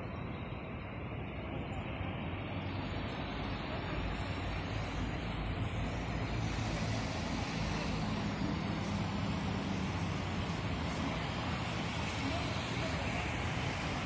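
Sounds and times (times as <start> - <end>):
cars driving by: 0.0 - 14.0
low engine drone: 0.0 - 14.0.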